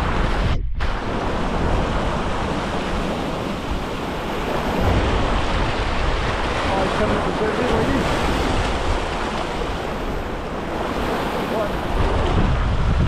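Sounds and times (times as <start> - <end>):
sea swell washing over rocks: 0.0 - 13.0
wind rumbling on microphone: 0.0 - 13.0.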